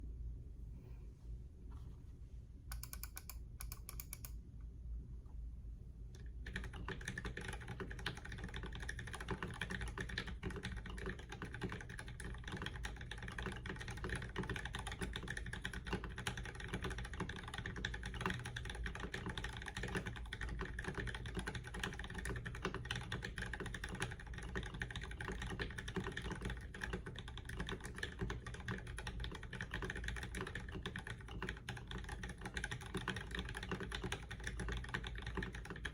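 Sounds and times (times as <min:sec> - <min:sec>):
mechanical keyboard typing: 0:02.7 - 0:04.4, 0:06.4 - 0:35.9.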